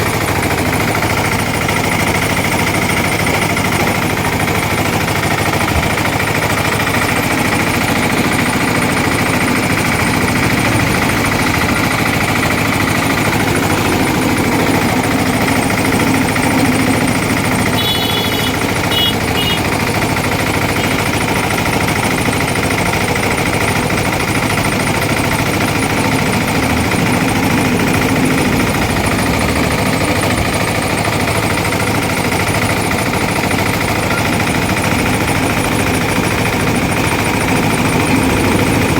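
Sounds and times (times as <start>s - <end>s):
juice crusher motor humming: 0.0s - 38.9s.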